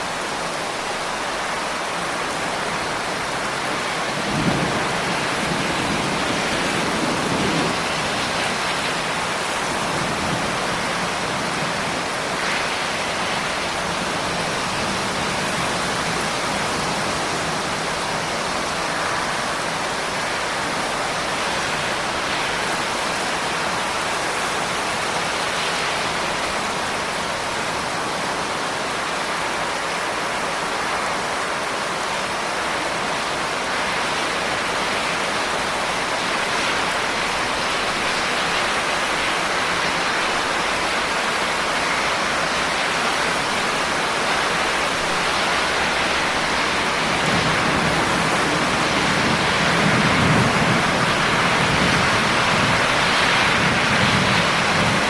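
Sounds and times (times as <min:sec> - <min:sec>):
heavy rain hiss: 0:00.0 - 0:55.0.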